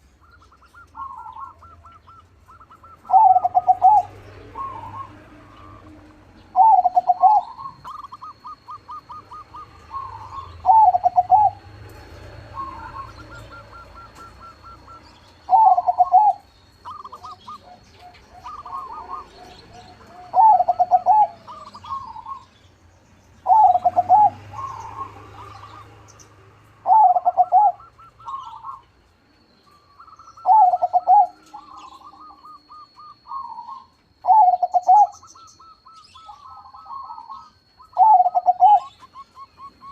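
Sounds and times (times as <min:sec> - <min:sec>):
dove cooing: 0:00.0 - 0:22.5, 0:23.4 - 0:39.9
faint trilled cooing: 0:00.0 - 0:22.5, 0:23.4 - 0:39.9.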